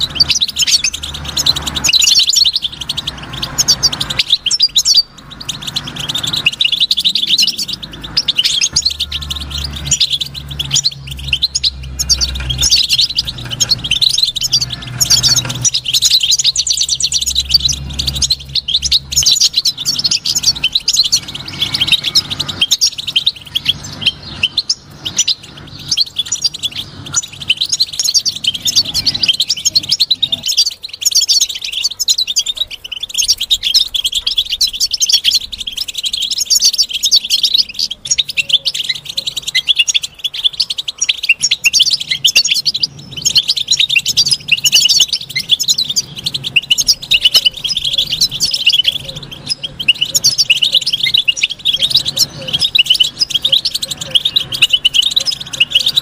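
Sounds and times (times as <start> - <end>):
finch twittering song: 0.0 - 56.0.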